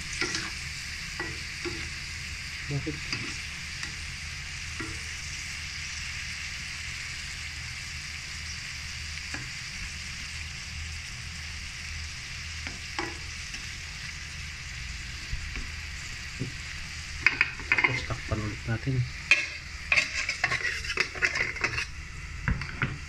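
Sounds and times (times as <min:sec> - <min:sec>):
shrimp sizzling in a pan: 0:00.0 - 0:23.0.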